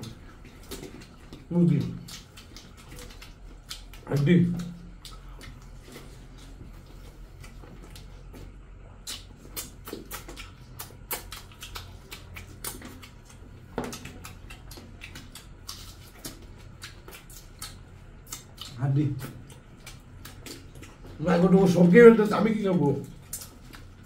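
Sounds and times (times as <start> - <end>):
chewing and lip-smacking: 0.0 - 24.0
steady low hum: 0.0 - 24.0.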